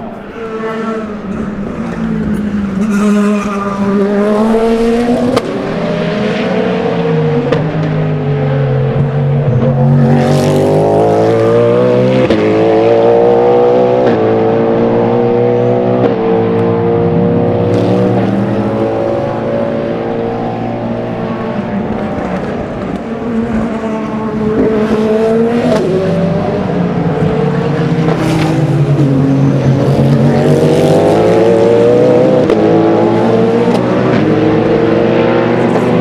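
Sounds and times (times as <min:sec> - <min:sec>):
race car engine accelerating: 0:00.0 - 0:36.0.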